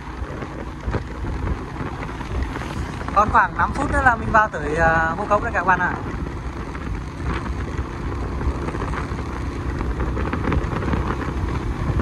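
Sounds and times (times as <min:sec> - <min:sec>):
low rumble of moving vehicle: 0:00.0 - 0:12.0
wind rushing over microphone: 0:00.0 - 0:12.0.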